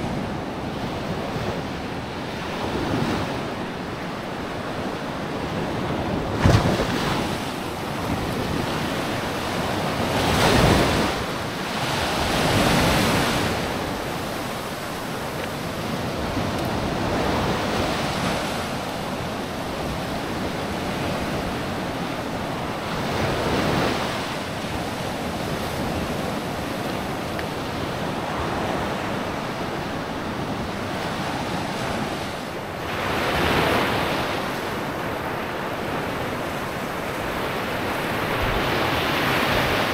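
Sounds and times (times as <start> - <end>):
small waves breaking on shore: 0.0 - 39.9
wind on microphone: 0.0 - 39.9.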